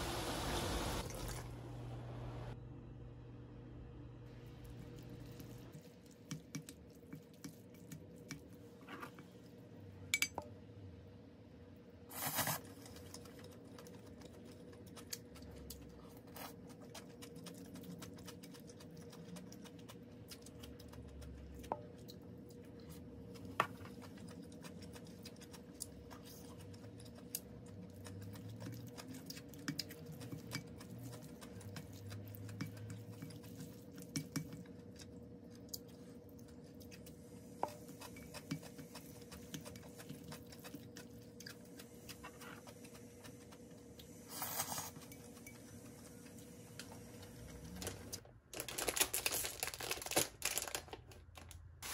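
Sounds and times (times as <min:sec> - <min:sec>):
wet squishing of noodles: 0:04.4 - 0:09.8, 0:12.2 - 0:51.9.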